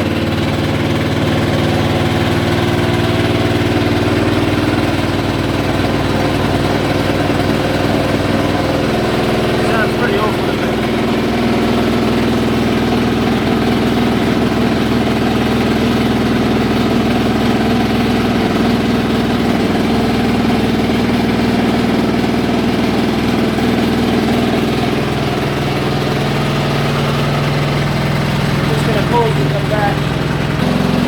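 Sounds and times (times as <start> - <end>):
washing machine spinning hum: 0.0 - 31.0.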